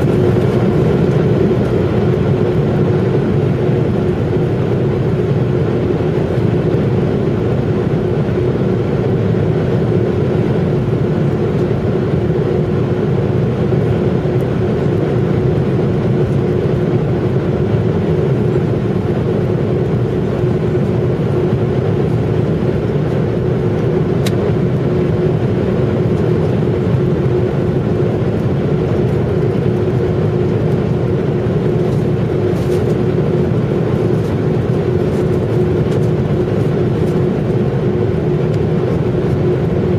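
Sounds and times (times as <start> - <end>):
constant droning hum: 0.0 - 39.9
jet engine and airflow roar: 0.0 - 39.9.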